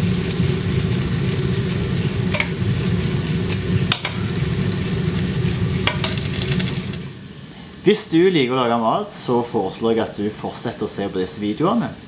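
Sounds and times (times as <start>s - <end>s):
low kitchen rumble: 0.0s - 12.0s.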